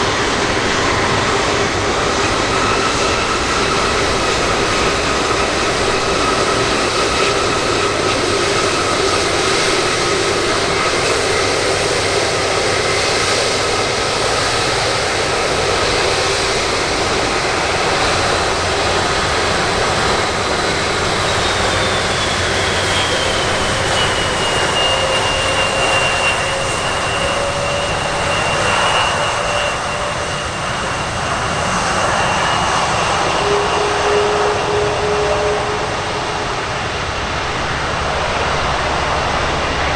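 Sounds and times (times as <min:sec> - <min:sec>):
high engine whine: 0:00.0 - 0:39.9
jet engines roaring: 0:00.0 - 0:39.9.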